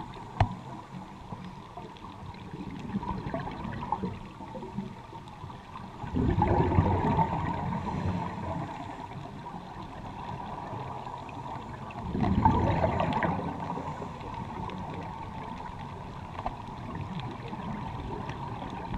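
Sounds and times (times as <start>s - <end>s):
exhaled bubbles gurgling underwater: 0.0s - 18.9s
muffled underwater hiss: 0.0s - 18.9s.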